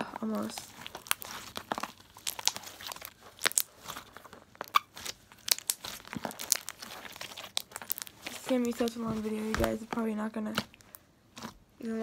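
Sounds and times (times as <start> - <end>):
slime crackling and popping: 0.0 - 12.0.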